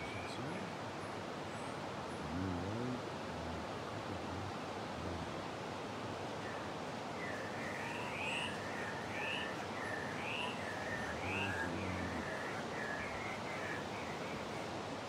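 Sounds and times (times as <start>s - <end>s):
rushing background hiss: 0.0s - 15.0s.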